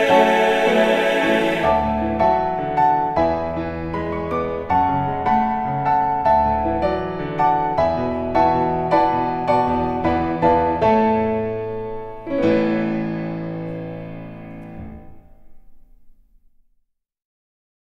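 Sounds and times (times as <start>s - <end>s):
piano chords: 0.0s - 16.4s.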